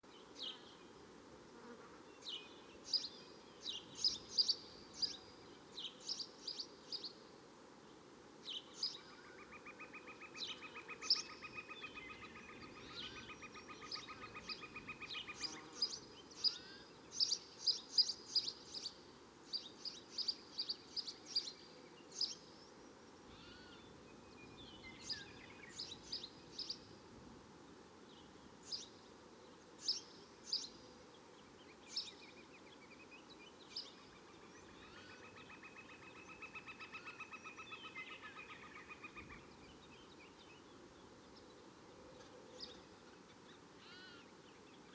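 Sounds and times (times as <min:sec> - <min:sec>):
steady background hiss: 0:00.0 - 0:44.9.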